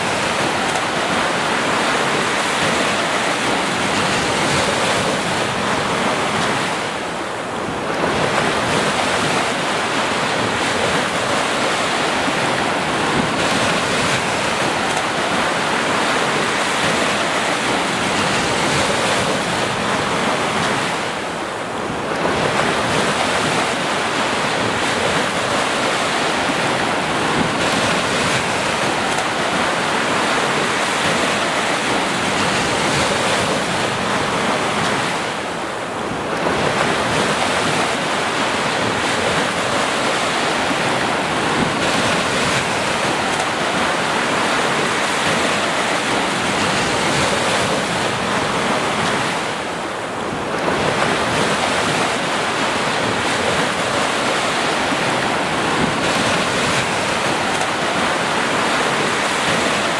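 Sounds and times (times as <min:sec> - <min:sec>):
waves washing up a sandy beach: 0:00.0 - 0:59.9.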